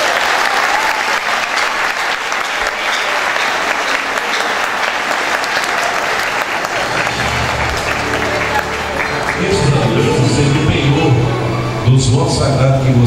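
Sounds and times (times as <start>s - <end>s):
crowd applauding: 0.0s - 11.8s
low music: 1.9s - 13.0s.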